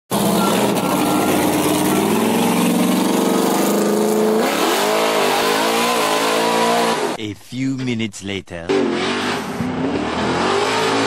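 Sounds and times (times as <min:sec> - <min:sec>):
truck engine accelerating: 0:00.1 - 0:07.2, 0:08.7 - 0:11.0.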